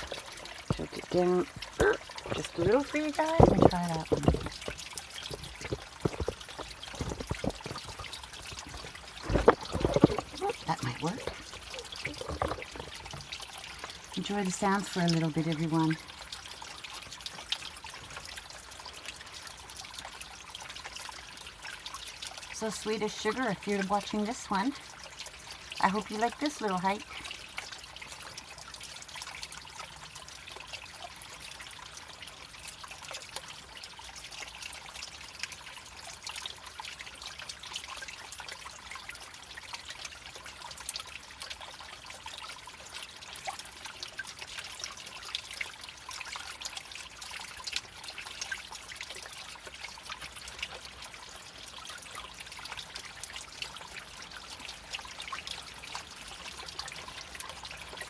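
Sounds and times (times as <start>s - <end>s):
creek babbling over rocks: 0.0s - 58.0s.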